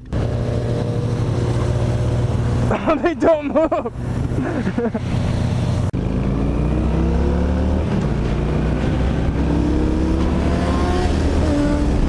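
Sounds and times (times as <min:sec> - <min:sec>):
motorcycle engine accelerating: 0:00.0 - 0:02.9, 0:03.8 - 0:12.0.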